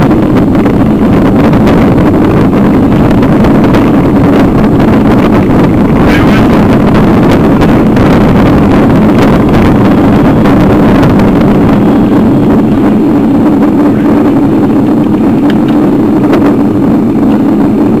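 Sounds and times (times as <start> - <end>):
wind and riding rumble: 0.0 - 18.0.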